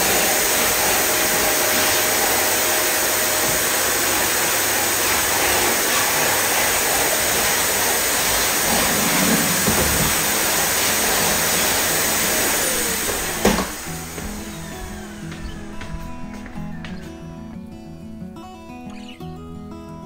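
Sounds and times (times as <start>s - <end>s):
vacuum cleaner running: 0.0s - 17.2s.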